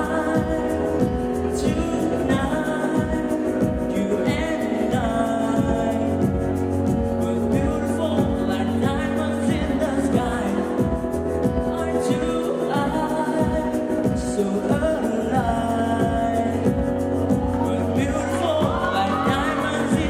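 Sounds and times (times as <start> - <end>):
instrumental accompaniment with beat: 0.0 - 20.0
man singing pop song into microphone: 0.0 - 20.0.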